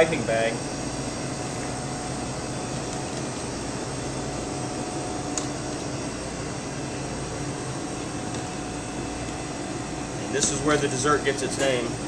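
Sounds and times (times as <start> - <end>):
kitchen machinery hum and hiss: 0.0 - 12.0.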